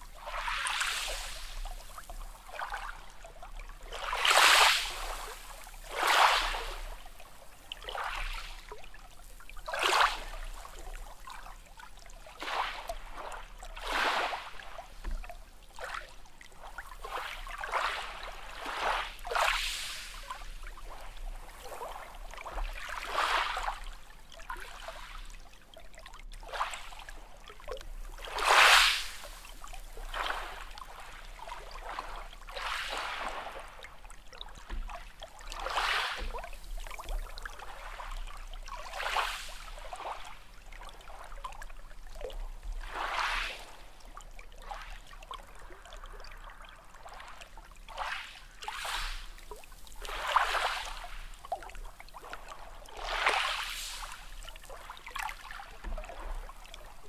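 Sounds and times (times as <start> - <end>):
small waves lapping and splashing: 0.0 - 57.0.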